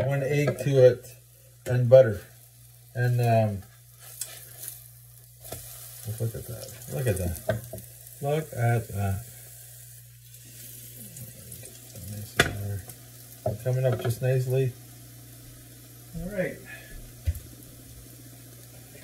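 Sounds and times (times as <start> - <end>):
pancakes sizzling in a pan: 0.0 - 19.0.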